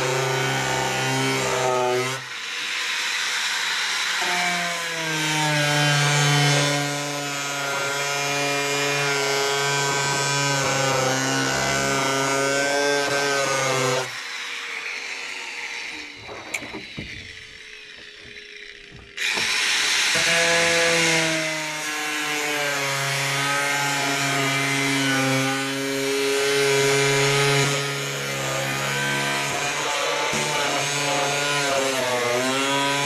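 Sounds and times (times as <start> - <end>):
angle grinder cutting plastic: 0.0 - 33.0.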